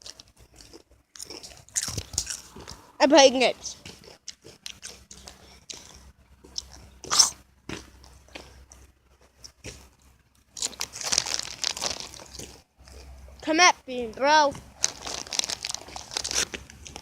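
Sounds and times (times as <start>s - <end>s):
person crunching a snack: 0.0s - 2.9s, 3.8s - 9.9s, 10.5s - 13.2s, 14.8s - 17.0s.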